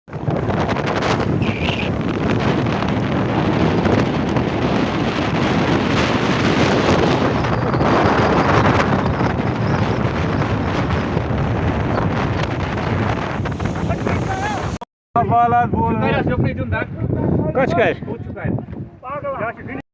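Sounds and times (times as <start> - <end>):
wind gusts buffeting microphone: 0.1 - 19.8.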